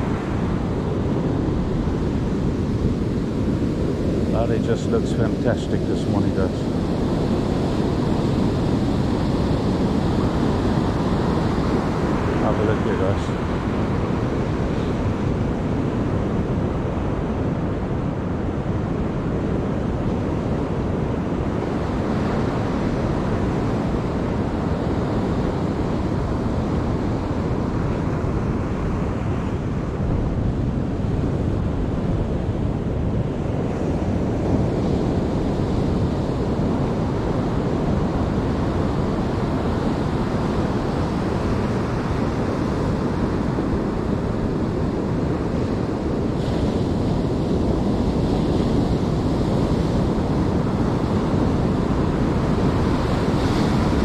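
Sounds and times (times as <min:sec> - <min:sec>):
ocean surf breaking on beach: 0:00.0 - 0:54.0
wind buffeting microphone: 0:00.0 - 0:54.0.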